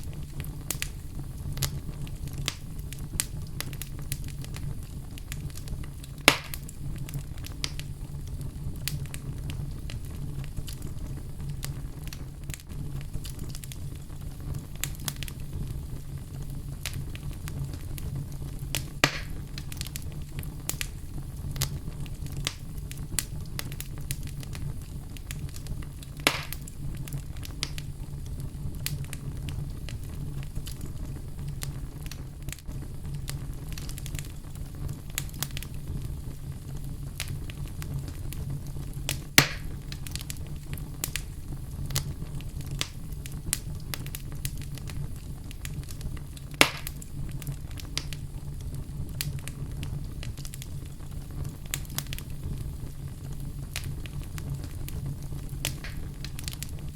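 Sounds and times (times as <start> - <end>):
loud fire pops: 0.0 - 56.9
wood fire crackling: 0.0 - 56.9.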